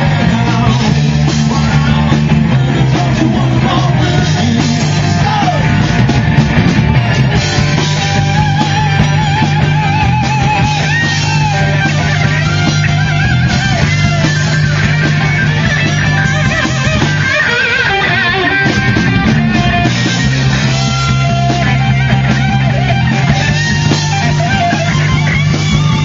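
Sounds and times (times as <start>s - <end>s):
bass guitar: 0.0s - 26.0s
drums: 0.0s - 26.0s
electric guitar lead: 0.0s - 26.0s.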